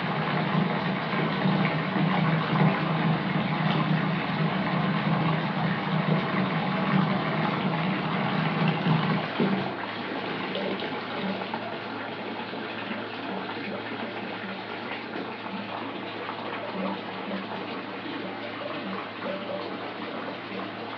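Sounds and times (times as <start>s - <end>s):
tap water running into bathtub: 0.0s - 20.9s.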